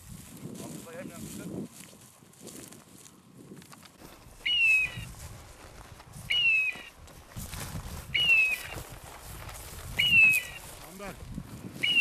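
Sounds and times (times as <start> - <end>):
rustle of dry grass: 0.0 - 12.0.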